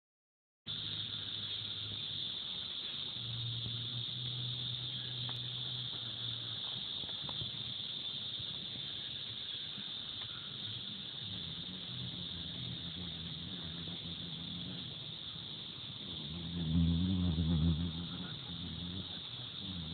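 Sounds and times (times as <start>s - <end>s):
faint low hum: 0.7s - 19.9s
high-pitched insect trill: 0.7s - 19.9s.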